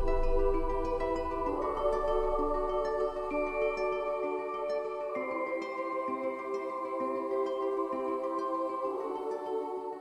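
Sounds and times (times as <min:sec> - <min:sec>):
ambient new-age music: 0:00.0 - 0:10.0.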